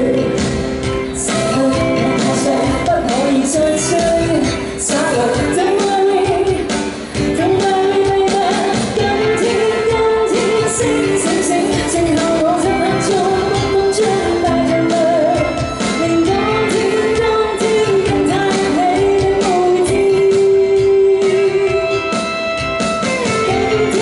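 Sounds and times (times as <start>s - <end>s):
instrumental pop backing: 0.0s - 24.0s
woman singing into a microphone: 0.0s - 24.0s.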